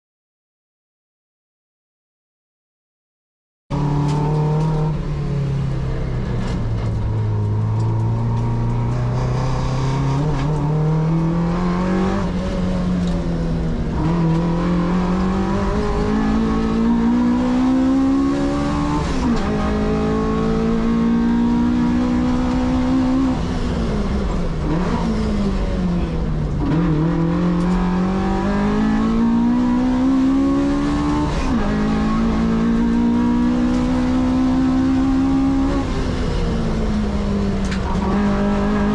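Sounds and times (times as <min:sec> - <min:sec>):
car engine revving through gears: 0:03.7 - 0:38.9.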